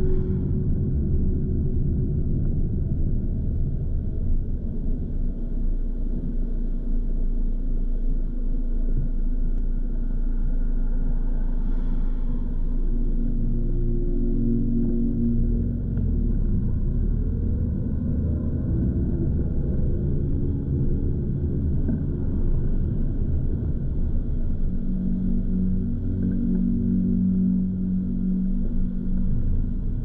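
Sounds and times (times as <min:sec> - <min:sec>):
car road and wind noise: 0:00.0 - 0:30.0.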